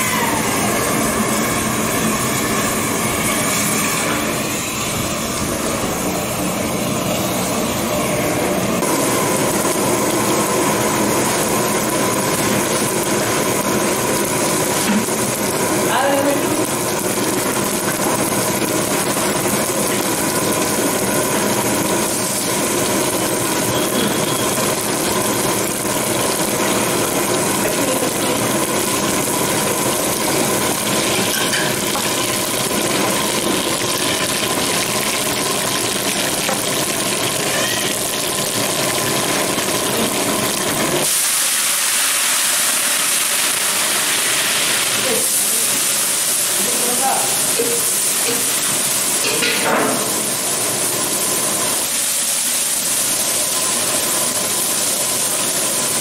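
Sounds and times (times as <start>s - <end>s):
chillies hissing in hot oil: 0.0s - 56.0s.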